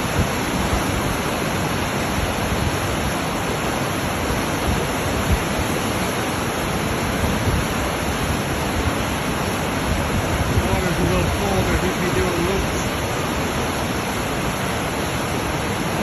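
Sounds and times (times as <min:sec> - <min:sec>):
rushing whitewater roar: 0:00.0 - 0:16.0.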